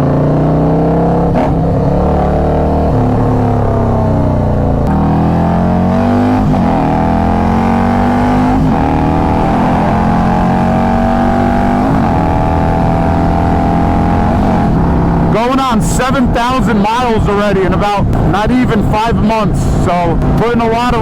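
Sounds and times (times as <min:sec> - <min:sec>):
motorcycle engine at speed: 0:00.0 - 0:21.0.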